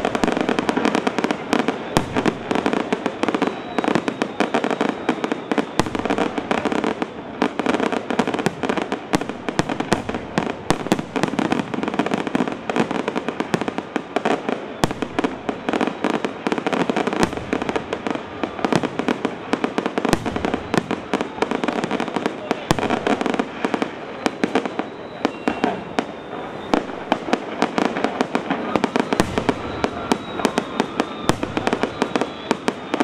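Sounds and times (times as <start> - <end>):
fireworks bursting: 0.0 - 33.0
fireworks crackle: 0.0 - 33.0.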